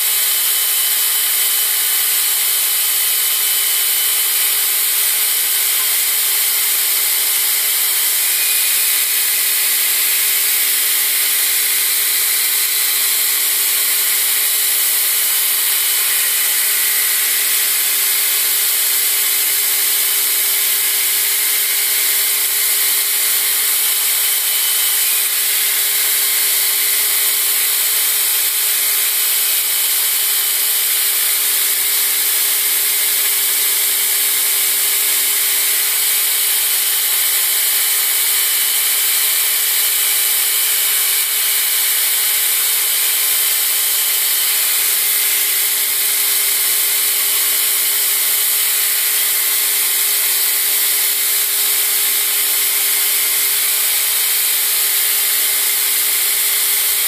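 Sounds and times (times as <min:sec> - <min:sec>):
belt grinder grinding steel: 0:00.0 - 0:57.0.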